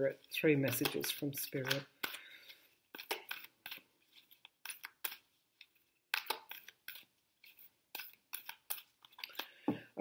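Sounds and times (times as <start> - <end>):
cards being shuffled: 0.6 - 9.5.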